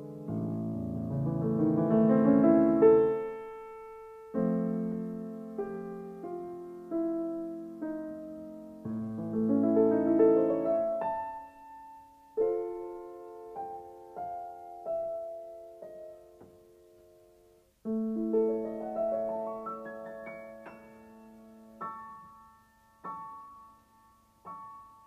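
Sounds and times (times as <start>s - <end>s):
slow solo piano: 0.0s - 25.0s.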